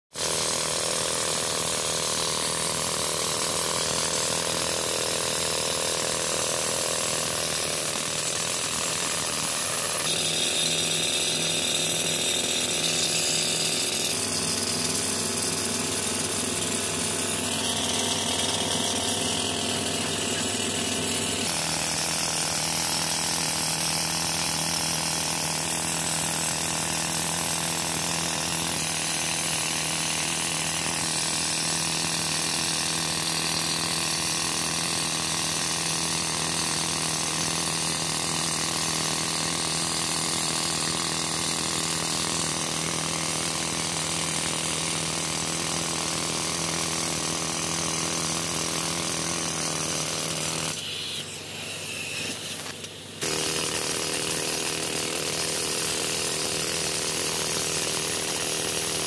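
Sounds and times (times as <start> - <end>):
pneumatic rock drill hammering: 0.1 - 59.0.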